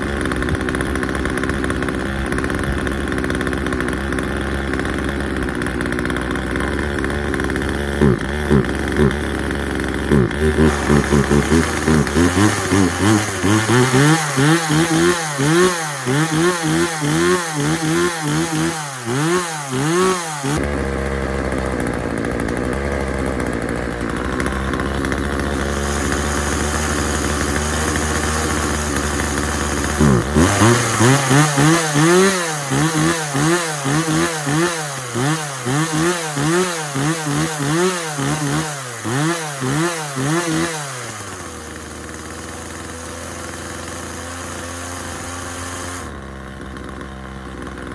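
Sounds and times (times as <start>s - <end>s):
chainsaw engine revving: 0.0s - 47.9s.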